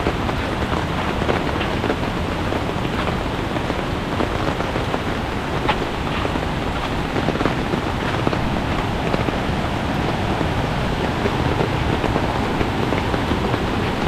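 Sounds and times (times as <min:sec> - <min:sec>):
heavy rain hissing: 0:00.0 - 0:14.0
raindrops tapping: 0:00.0 - 0:14.0.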